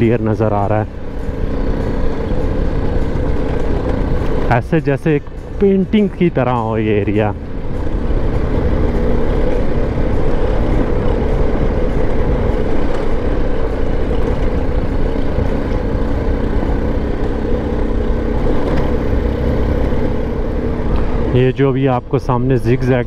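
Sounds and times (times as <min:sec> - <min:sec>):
motorcycle engine running: 0:00.0 - 0:21.6
wind and tyres on gravel: 0:00.0 - 0:23.0.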